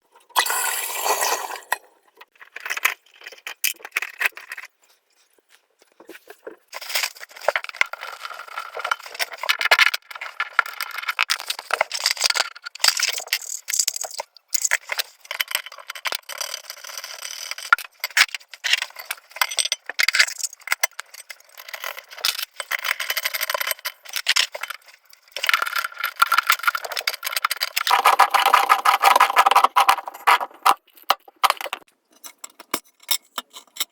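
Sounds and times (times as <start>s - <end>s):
parts rattling and clinking: 6.2s - 33.9s.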